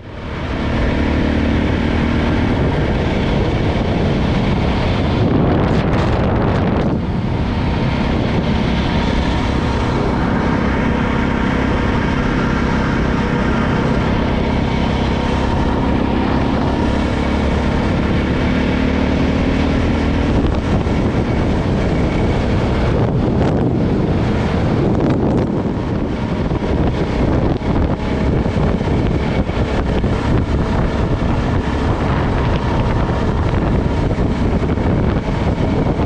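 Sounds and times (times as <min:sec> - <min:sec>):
motorcycle engine running: 0:00.0 - 0:36.0
wind rushing over microphone: 0:00.0 - 0:36.0.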